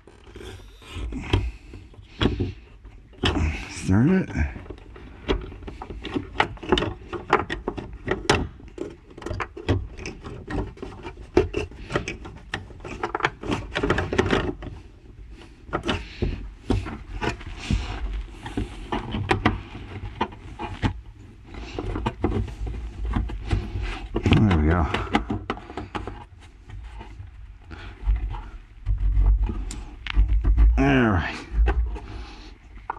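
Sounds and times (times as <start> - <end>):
plastic and rubber clicks and rubbing: 4.5 - 32.9.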